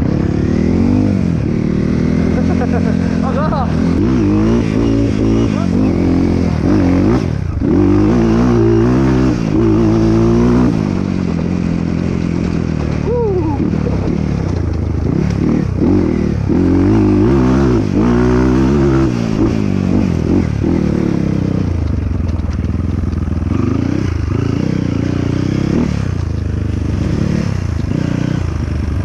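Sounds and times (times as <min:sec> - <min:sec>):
dirt bike engine revving: 0:00.0 - 0:22.0, 0:22.6 - 0:29.0.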